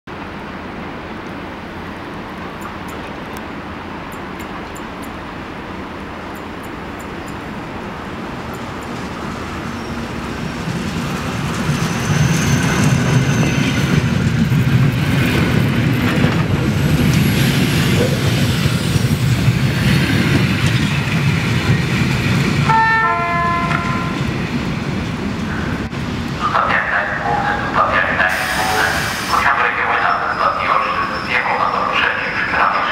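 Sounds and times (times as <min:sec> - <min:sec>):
train rumbling past: 0:00.1 - 0:32.9
high squeal of train: 0:01.4 - 0:32.9.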